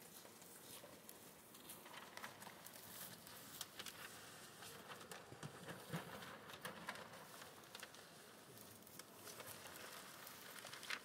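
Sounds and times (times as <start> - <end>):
paper poster rustling: 0.0 - 11.0.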